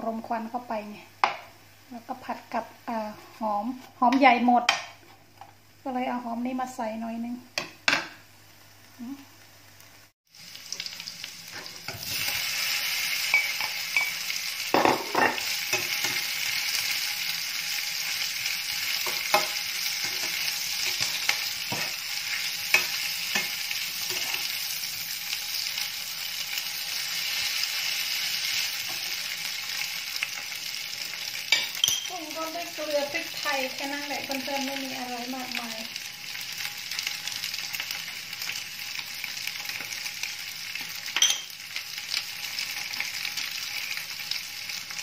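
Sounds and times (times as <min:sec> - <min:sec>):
potatoes sizzling in pan: 0:05.7 - 0:45.0.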